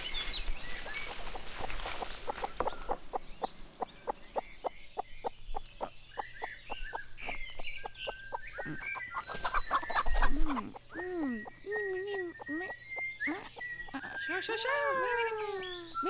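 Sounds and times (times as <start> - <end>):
small birds chirping: 0.0 - 16.0
hen clucking: 1.0 - 15.7.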